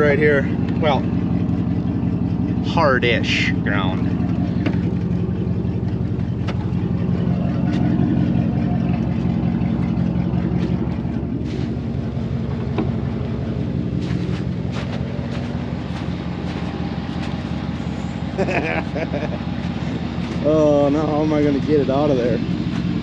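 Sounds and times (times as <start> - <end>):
tires churning in mud: 0.0 - 23.0
truck engine under load: 0.0 - 23.0.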